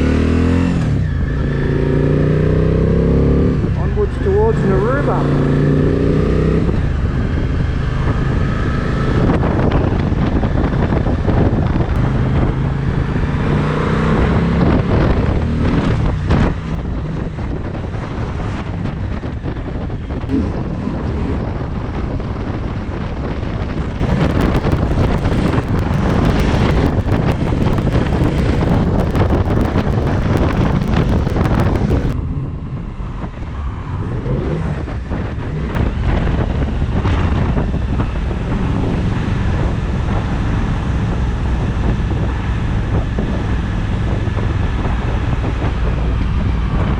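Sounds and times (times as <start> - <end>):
motorcycle engine revving: 0.0 - 46.9
wind buffeting microphone: 0.0 - 46.9.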